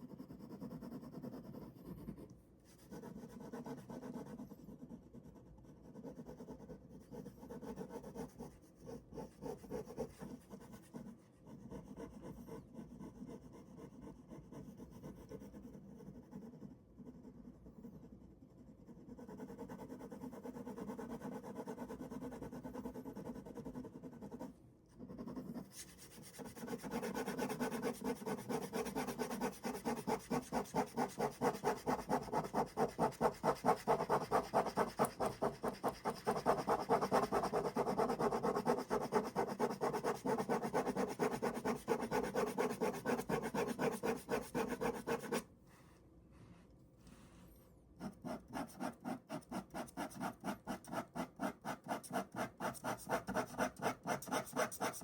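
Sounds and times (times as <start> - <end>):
ballpoint pen scratching on paper: 0.0 - 45.5, 48.0 - 55.0.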